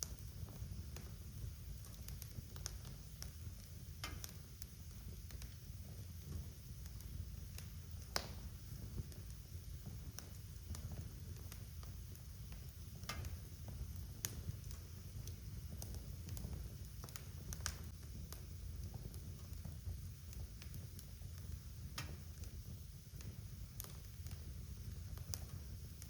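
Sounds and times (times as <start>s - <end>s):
fire crackling in fireplace: 0.0s - 26.0s.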